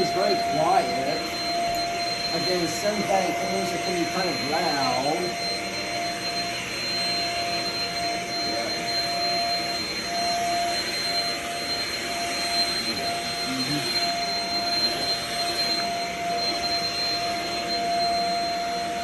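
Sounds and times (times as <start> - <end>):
stick vacuum cleaner running: 0.0 - 19.0.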